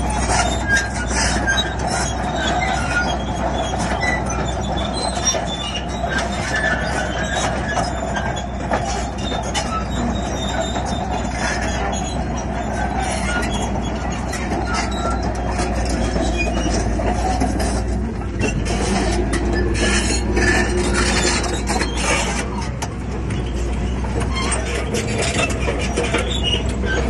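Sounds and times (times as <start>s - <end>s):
diesel engine humming: 0.0s - 27.0s
steel tracks clanking: 0.0s - 27.0s.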